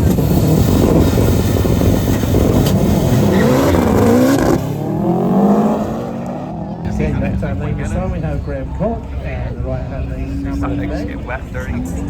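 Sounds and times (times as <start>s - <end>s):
drag racing engines accelerating: 0.0s - 12.0s.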